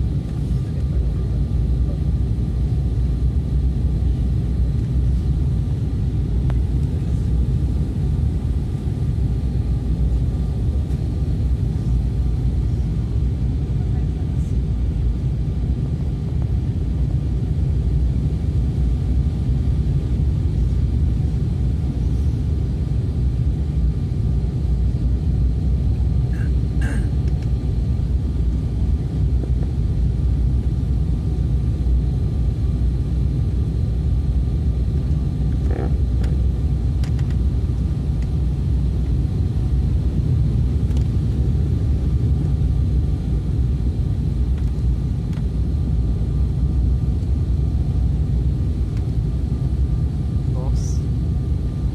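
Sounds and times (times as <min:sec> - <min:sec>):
airliner engine rumble: 0:00.0 - 0:51.9
faint steady whine: 0:00.0 - 0:51.9.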